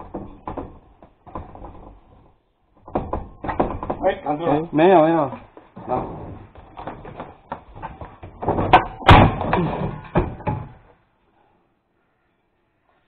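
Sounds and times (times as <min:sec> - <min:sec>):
hard parts knocking and clattering: 0:00.0 - 0:11.0.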